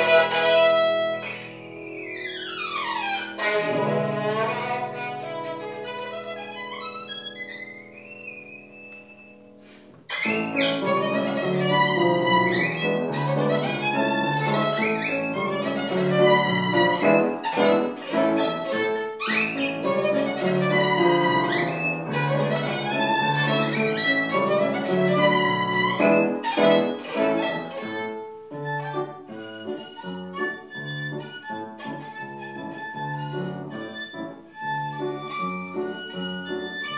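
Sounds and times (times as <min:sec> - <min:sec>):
piano chords: 0:00.0 - 0:36.9
violin slides and swoops: 0:00.0 - 0:36.9.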